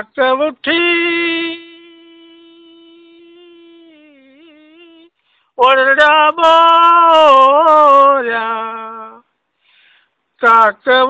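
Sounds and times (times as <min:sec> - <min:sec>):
person singing unaccompanied: 0:00.0 - 0:09.3, 0:10.4 - 0:11.0.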